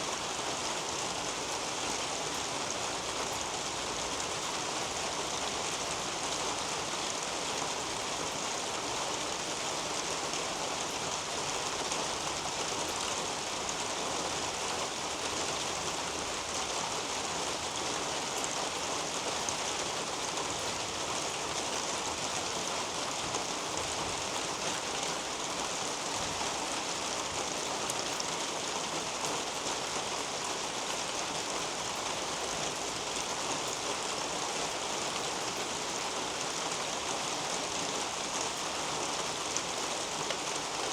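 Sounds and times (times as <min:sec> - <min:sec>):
rain on foliage: 0:00.0 - 0:40.9.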